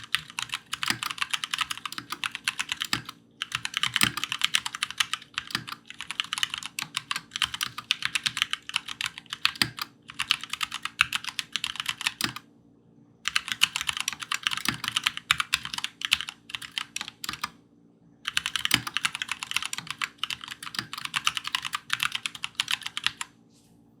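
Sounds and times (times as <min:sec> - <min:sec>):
mechanical keyboard typing: 0:00.0 - 0:12.4, 0:13.3 - 0:17.6, 0:18.3 - 0:23.3.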